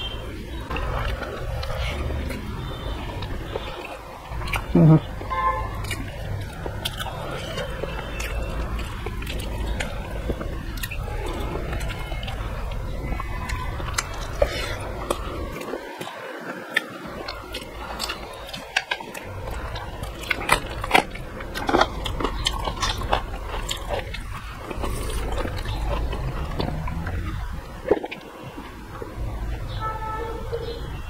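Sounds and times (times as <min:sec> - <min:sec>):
chewing and smacking: 0:00.0 - 0:29.8.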